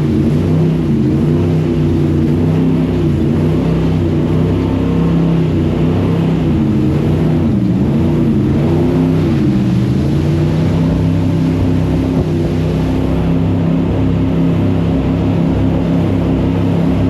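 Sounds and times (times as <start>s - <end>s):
jet boat engine running: 0.0s - 17.0s
water rushing: 0.0s - 17.0s.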